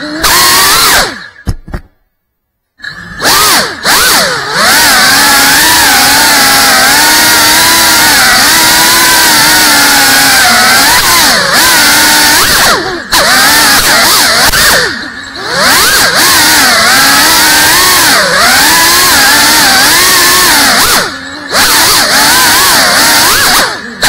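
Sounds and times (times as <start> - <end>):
drone motors whining: 0.0 - 2.0, 2.8 - 24.0.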